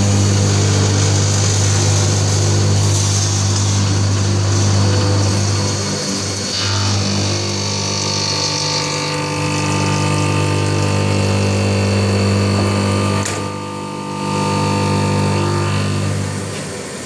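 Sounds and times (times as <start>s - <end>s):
milling machine hum and whine: 0.0s - 17.0s.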